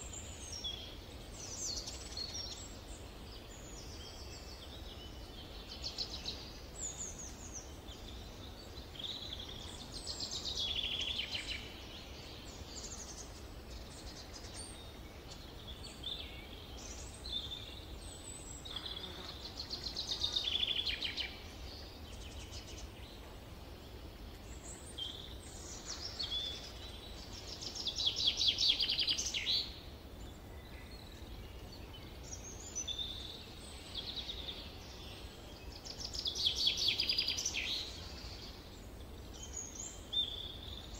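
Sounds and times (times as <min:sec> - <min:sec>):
loud rapid bird song phrase: 0:00.0 - 0:40.9
songbirds singing: 0:00.0 - 0:40.9.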